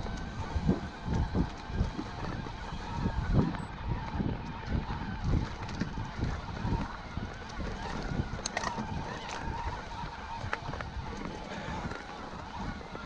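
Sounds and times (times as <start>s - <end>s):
low thuds of wind and bumps: 0.0s - 13.0s.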